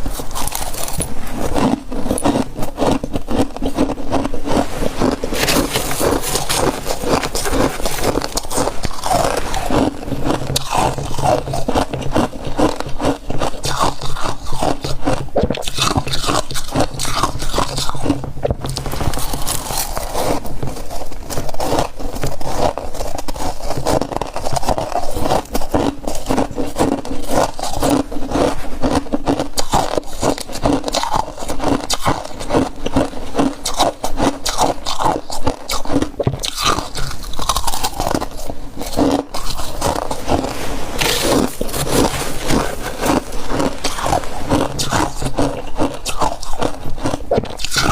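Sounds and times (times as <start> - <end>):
chewing frost crunching: 0.0 - 47.9.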